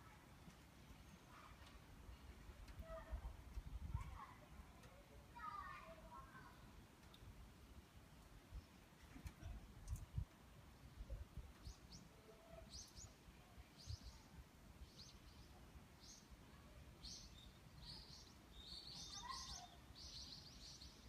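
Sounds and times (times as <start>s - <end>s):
small birds chirping faintly: 0.0s - 21.0s.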